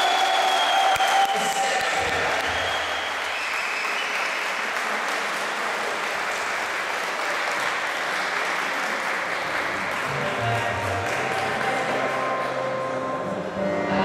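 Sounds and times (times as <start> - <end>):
applause: 0.0 - 12.9.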